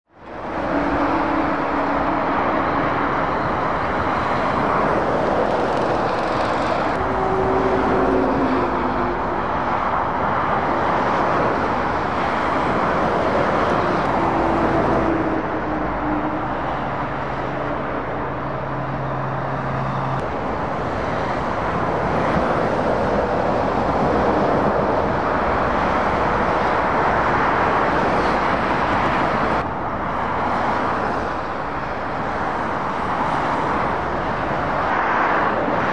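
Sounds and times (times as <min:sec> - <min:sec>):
diesel truck engines droning: 0:00.1 - 0:35.9
tyre noise of passing traffic: 0:00.1 - 0:35.9.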